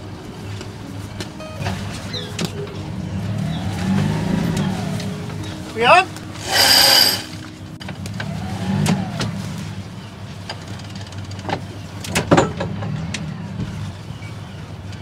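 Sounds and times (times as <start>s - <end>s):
diesel engine running at low revs: 0.0s - 15.0s.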